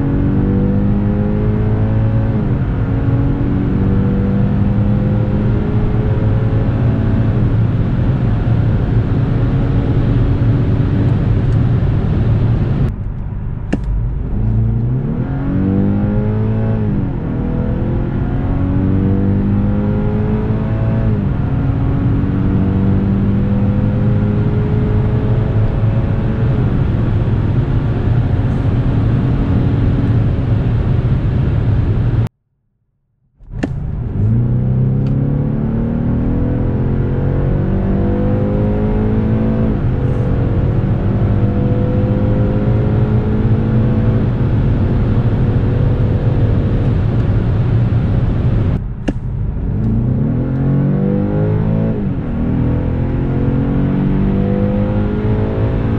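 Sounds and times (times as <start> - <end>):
car engine accelerating: 0.0 - 32.3, 33.4 - 55.9.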